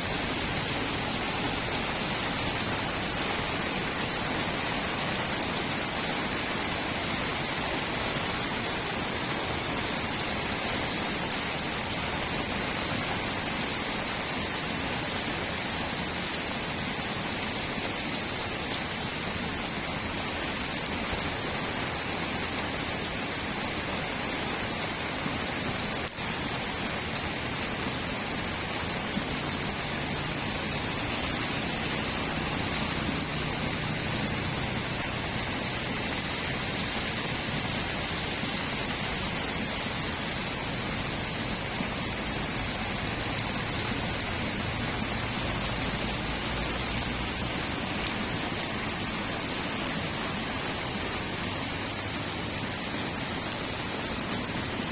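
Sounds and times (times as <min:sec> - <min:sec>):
rain falling on street: 0:00.0 - 0:54.9.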